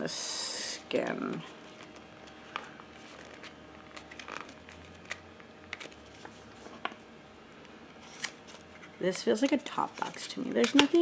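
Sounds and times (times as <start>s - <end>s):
low room hum: 0.0s - 11.0s
soft rustling of small items: 0.8s - 11.0s.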